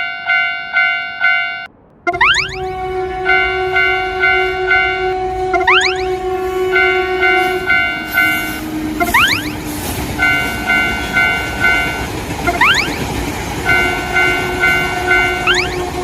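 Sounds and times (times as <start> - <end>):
rising whistle-like sweep: 0.0 - 13.1, 13.7 - 15.8
passing train rushing: 0.0 - 16.0
railroad crossing bell ringing: 0.0 - 16.0.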